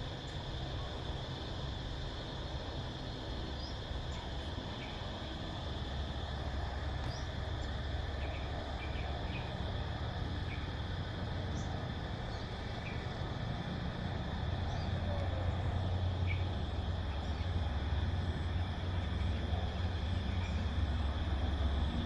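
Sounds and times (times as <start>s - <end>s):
cicadas droning: 0.0s - 22.0s
low rumble of wind: 0.0s - 22.0s.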